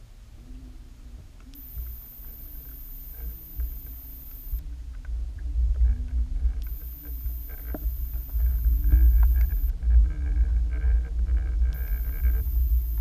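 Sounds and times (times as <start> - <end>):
faint clicks and ticks: 1.4 - 13.0.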